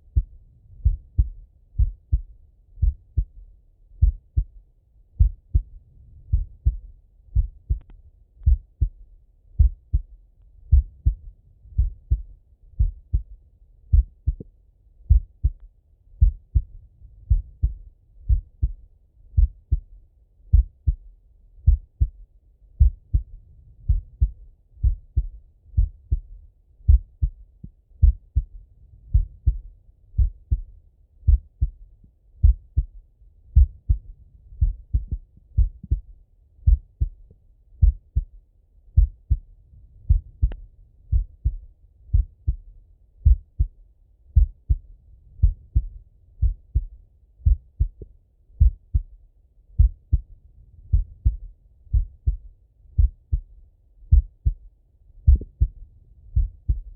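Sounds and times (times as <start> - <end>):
heartbeat through stethoscope: 0.0 - 4.6, 5.2 - 15.6, 16.2 - 22.2, 22.8 - 31.8, 32.4 - 56.9.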